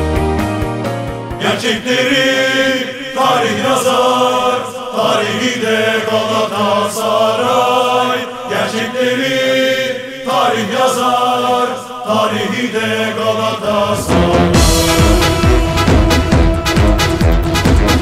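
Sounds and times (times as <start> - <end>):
many voices chanting in unison: 1.4 - 18.0.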